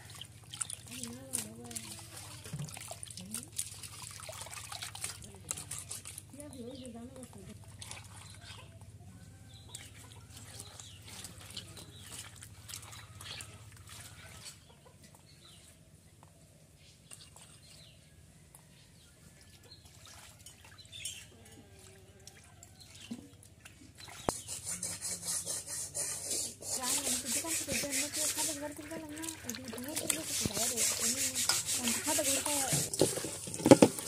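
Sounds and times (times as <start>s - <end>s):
hands washing fish in water: 0.0s - 15.7s, 18.7s - 34.0s.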